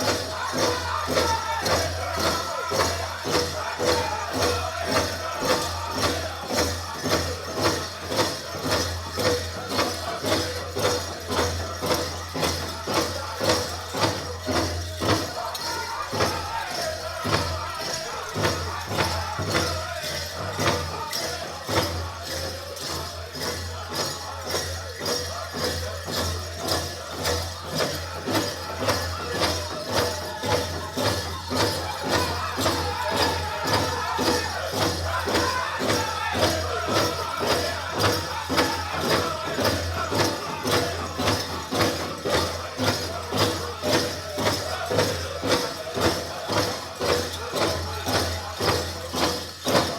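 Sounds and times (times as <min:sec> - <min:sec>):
big drum beat: 0:00.0 - 0:49.9
drum group singing: 0:00.0 - 0:49.9.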